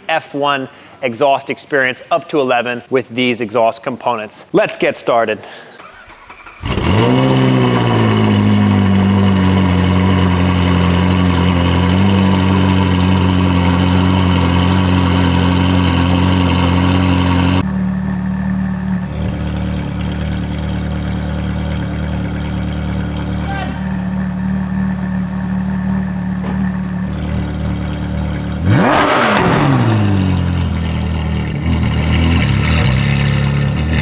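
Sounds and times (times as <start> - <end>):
car engine starting and idling: 5.4 - 34.0.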